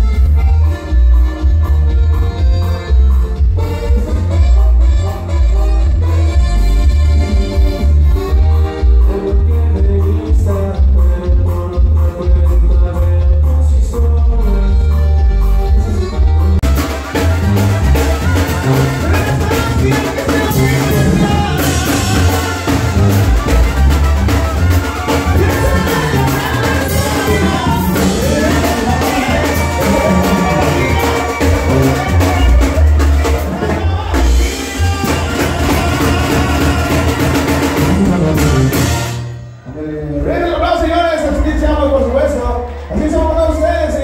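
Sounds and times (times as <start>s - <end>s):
brass band playing loud: 0.0s - 13.2s, 13.8s - 44.0s.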